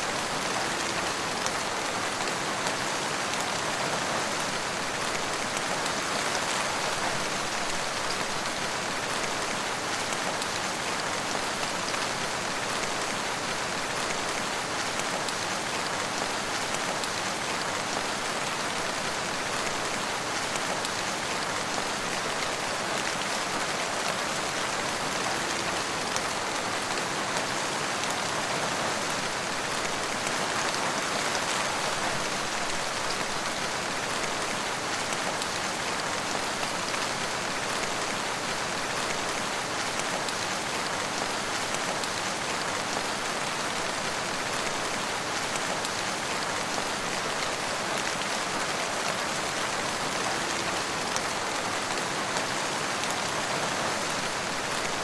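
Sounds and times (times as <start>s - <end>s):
rain pattering on hard surfaces: 0.0s - 55.0s.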